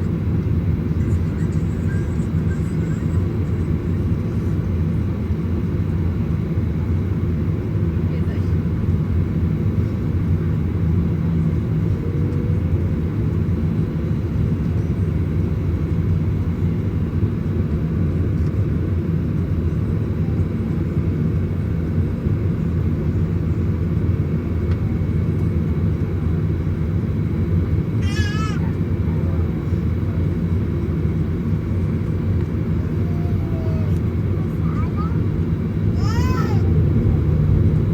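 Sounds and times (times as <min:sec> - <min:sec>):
jet engine cabin rumble: 0:00.0 - 0:37.9.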